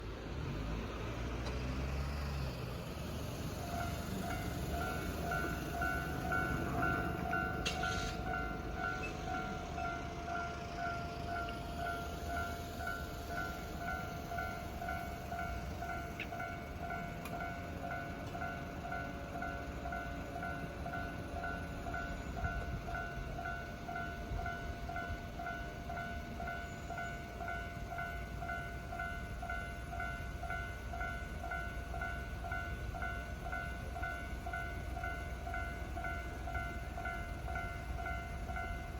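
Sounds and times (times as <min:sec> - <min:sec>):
level crossing warning bell: 0:02.8 - 0:38.9.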